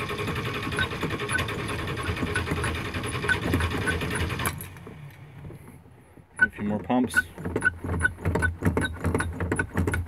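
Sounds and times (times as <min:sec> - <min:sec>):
starter motor cranking: 0:00.0 - 0:05.0, 0:06.4 - 0:10.0.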